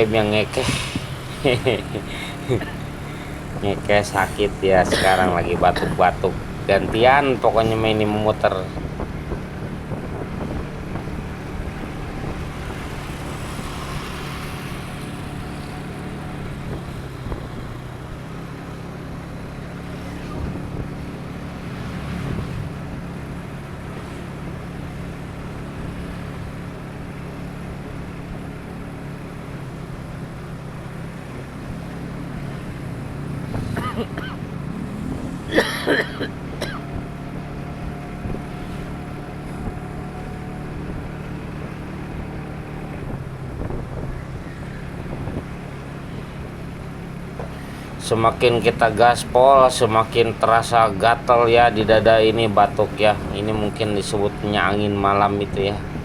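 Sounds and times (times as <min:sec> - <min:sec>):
wind rushing over microphone: 0:00.0 - 0:28.2, 0:29.8 - 0:56.0
motorcycle engine hum: 0:00.0 - 0:56.0.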